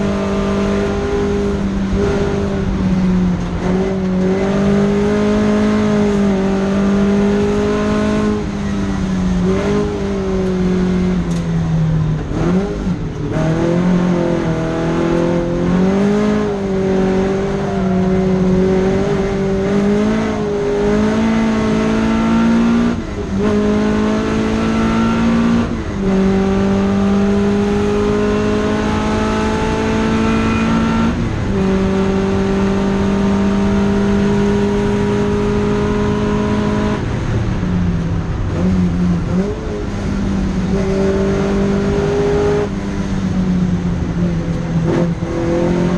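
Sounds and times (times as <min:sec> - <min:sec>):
car engine accelerating hard: 0:00.0 - 0:45.9.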